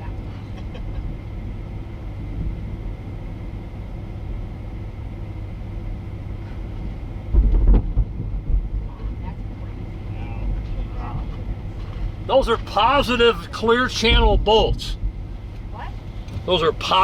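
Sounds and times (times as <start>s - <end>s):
loud deep rumble: 0.0s - 17.0s
vehicle low rumble: 0.0s - 17.0s.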